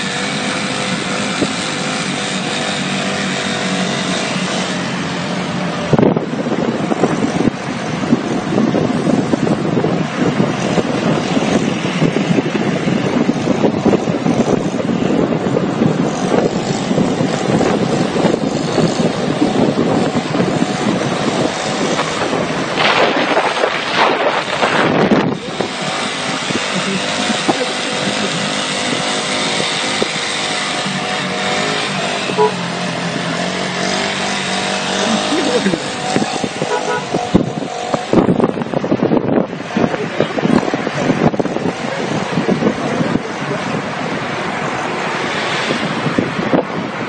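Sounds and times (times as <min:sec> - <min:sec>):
drone of engines and tyres: 0:00.0 - 0:47.0
road and traffic noise: 0:00.0 - 0:47.0
wind buffeting microphone: 0:04.3 - 0:47.0.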